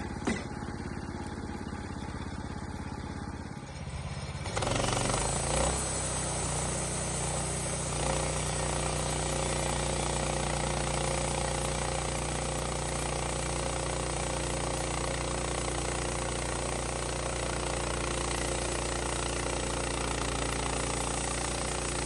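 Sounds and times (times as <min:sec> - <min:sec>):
saw cutting through log: 0:00.0 - 0:01.3, 0:03.8 - 0:22.0
sawmill engine running: 0:00.0 - 0:22.0.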